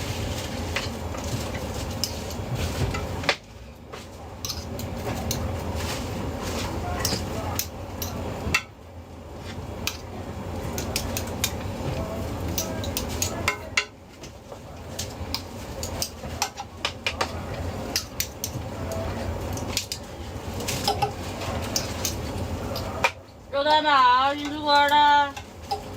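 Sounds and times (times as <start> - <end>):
utensils and dishes clinking: 0.0 - 3.4, 4.4 - 8.8, 9.8 - 14.0, 14.8 - 23.2, 24.4 - 25.9
steady low hum: 0.0 - 25.9.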